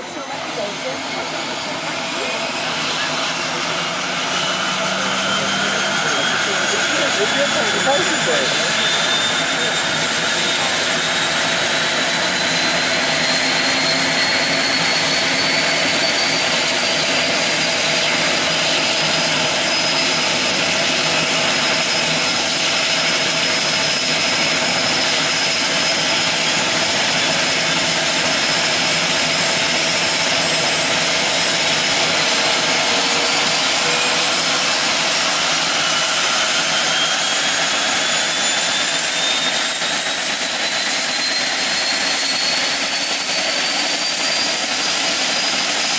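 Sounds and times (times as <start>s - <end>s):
high engine whines rising in pitch: 0.0s - 45.9s
turboprop engines running: 0.0s - 45.9s.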